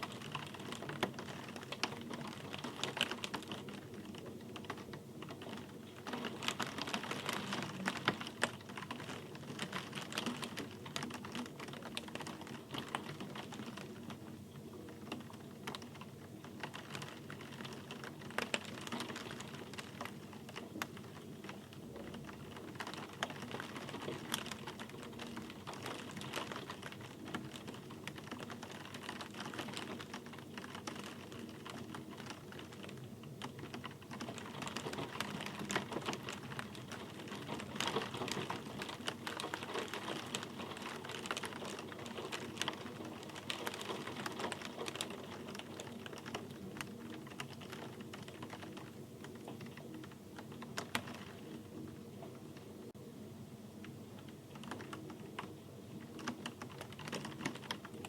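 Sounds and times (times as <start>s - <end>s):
rain drops on hard surface: 0.0s - 53.0s, 53.7s - 58.0s.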